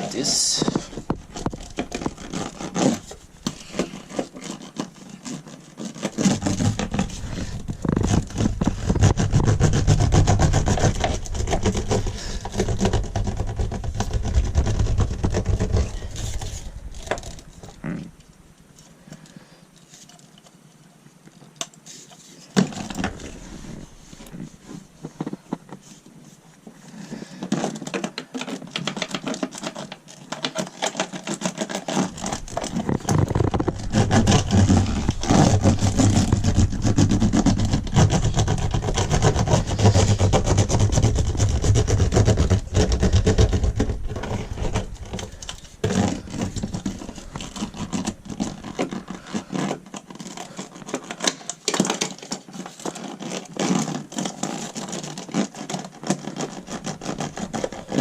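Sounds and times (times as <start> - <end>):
tools scraping and rubbing mats: 0.0 - 18.2, 21.8 - 58.0.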